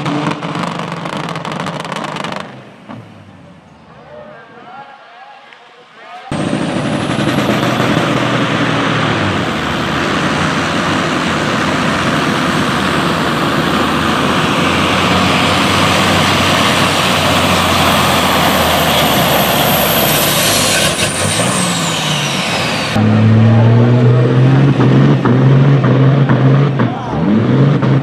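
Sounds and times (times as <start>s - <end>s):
diesel engine at full throttle: 0.0s - 4.2s, 6.3s - 28.0s.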